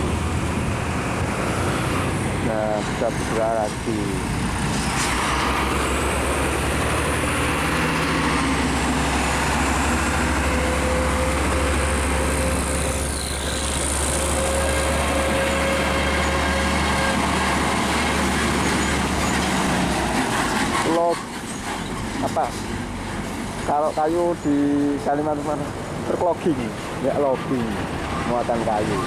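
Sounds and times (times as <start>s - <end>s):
diesel truck engines droning: 0.0s - 29.0s.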